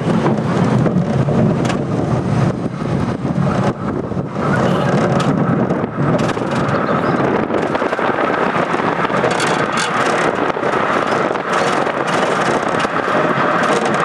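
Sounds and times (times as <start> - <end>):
roller coaster rattling: 0.0 - 14.0
roller coaster wheels rumbling: 0.0 - 14.0.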